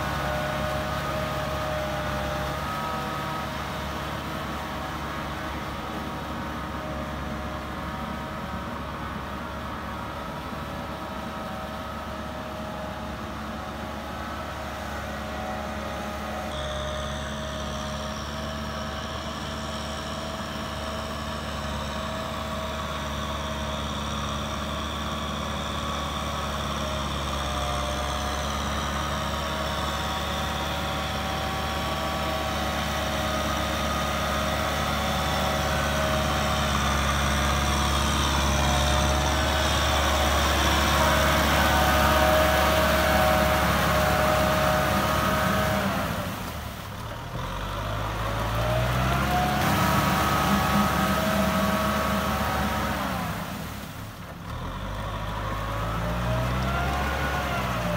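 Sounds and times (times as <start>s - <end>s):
tractor engines running: 0.0s - 57.9s.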